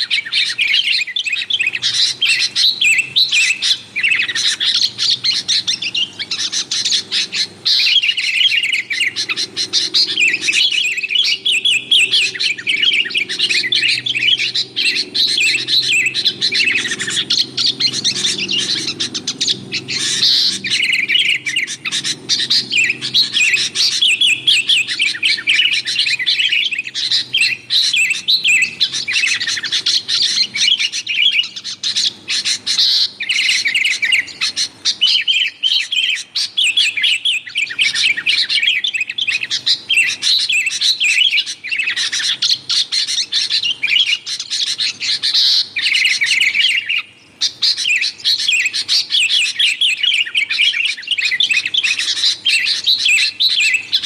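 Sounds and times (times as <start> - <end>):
birds chattering calls: 0.0 - 54.0.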